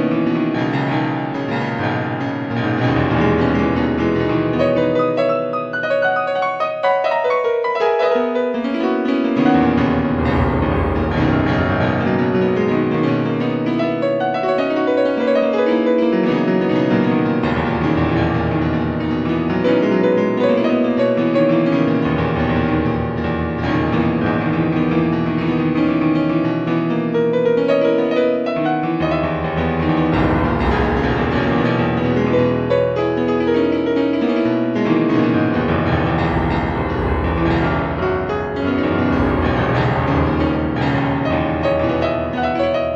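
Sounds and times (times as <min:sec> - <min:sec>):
piano music: 0:00.0 - 0:42.9.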